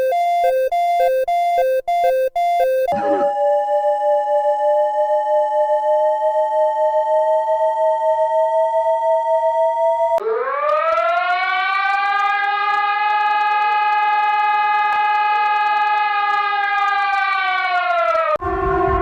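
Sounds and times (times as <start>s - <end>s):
emergency alert siren wail: 0.0s - 19.0s.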